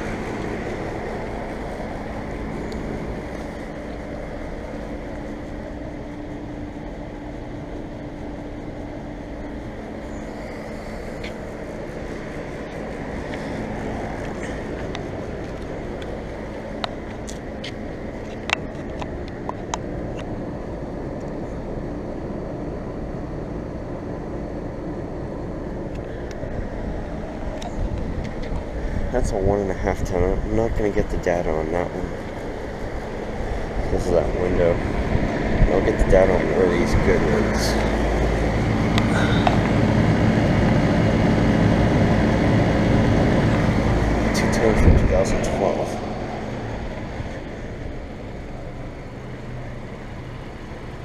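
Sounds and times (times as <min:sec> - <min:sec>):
air conditioner hum: 0:00.0 - 0:51.0.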